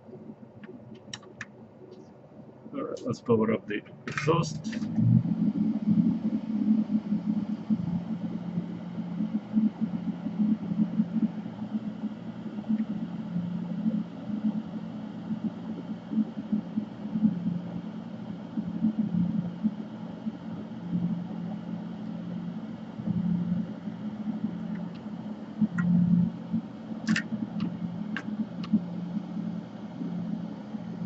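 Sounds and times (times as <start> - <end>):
exhaust fan humming: 0.0 - 31.0.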